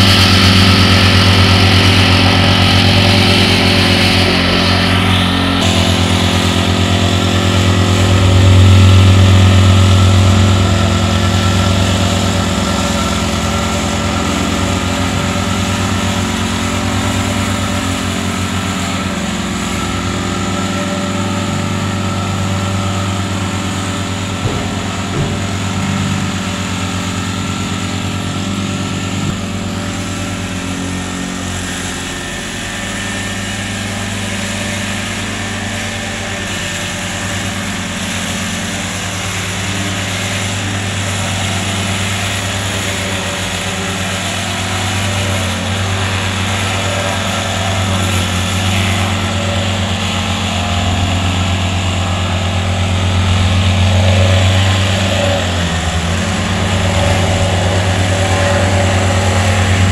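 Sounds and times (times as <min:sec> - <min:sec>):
compactor engine vibrating: 0:00.0 - 0:59.9.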